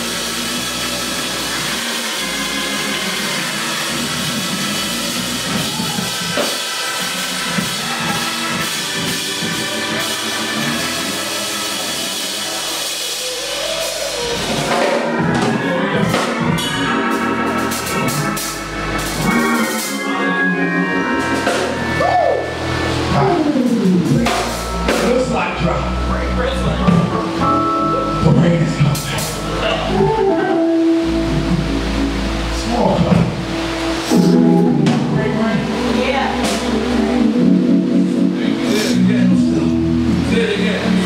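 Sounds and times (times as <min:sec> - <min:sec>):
drum kit: 0:00.0 - 0:41.0
live church band music: 0:00.0 - 0:41.0.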